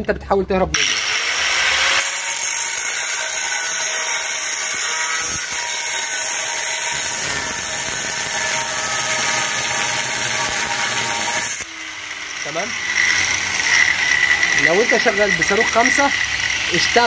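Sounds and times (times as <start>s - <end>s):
angle grinder whining: 0.8s - 17.0s.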